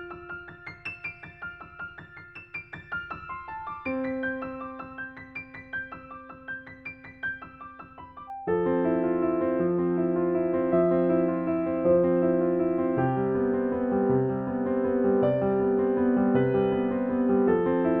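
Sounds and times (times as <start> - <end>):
gentle piano piece: 0.0 - 18.0.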